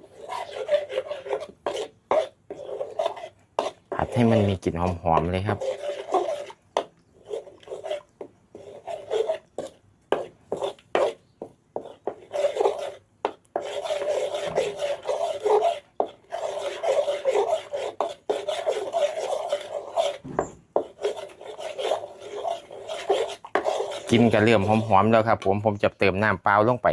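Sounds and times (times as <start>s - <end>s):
spatula scraping in a wok: 0.0s - 25.7s.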